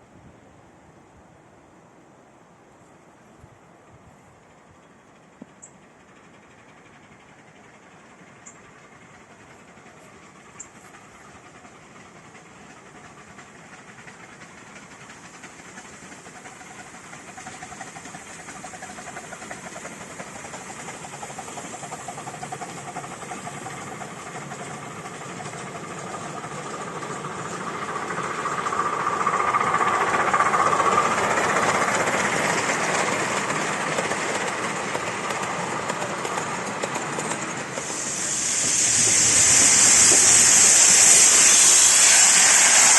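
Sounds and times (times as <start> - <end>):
steam train approaching: 0.9 - 42.9
steam hissing: 4.5 - 42.9.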